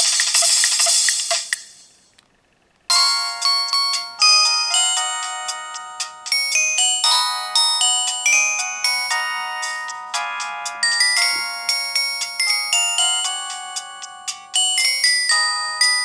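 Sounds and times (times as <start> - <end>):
polyphonic ringtone melody: 2.9 - 16.0.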